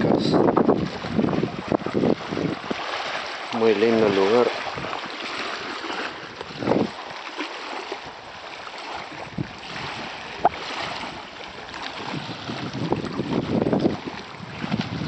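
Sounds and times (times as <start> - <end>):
wind buffeting microphone: 0.0 - 7.2, 7.9 - 15.0
small waves lapping: 0.0 - 15.0.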